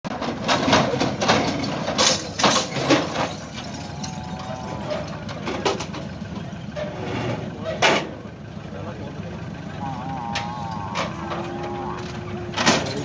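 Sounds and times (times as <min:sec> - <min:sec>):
knocks and clatter: 0:00.1 - 0:08.2, 0:10.4 - 0:13.0
vehicle engine idling: 0:00.2 - 0:13.0.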